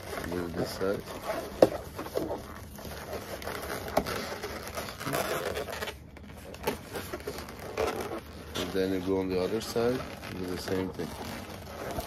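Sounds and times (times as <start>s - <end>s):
latex balloons rubbing: 0.0s - 12.0s.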